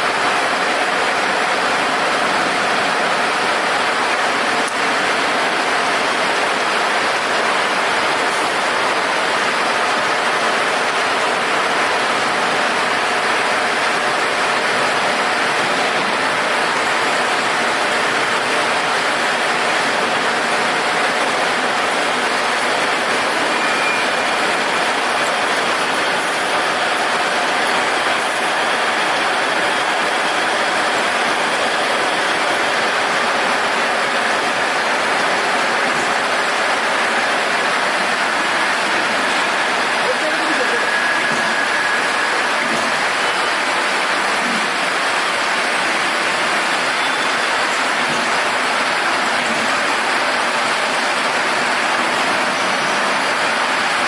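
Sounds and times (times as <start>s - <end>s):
metal-polishing machine: 0.0s - 54.0s.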